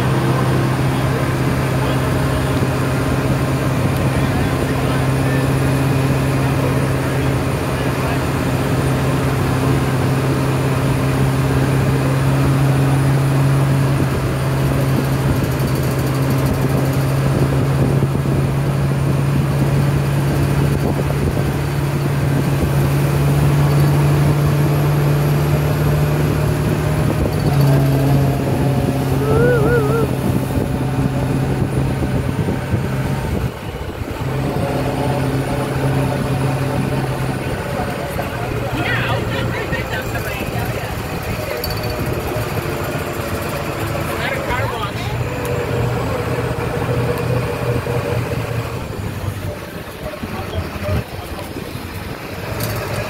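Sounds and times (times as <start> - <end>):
road and wind noise: 0.0 - 53.0
truck engine droning: 0.0 - 53.0.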